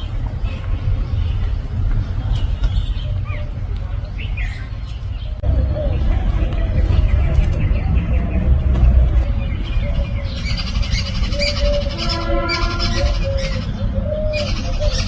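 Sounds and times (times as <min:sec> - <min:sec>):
birds calling and chirping: 0:00.0 - 0:15.0
steady low rumble: 0:00.0 - 0:15.0.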